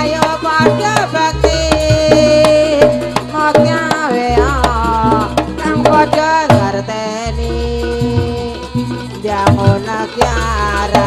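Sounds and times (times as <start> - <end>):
bending melody line: 0.0 - 11.0
hand drum strokes: 0.0 - 11.0.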